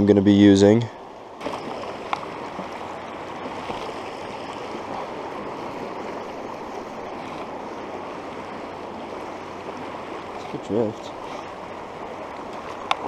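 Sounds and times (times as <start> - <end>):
river water rushing over rocks: 1.0 - 13.0.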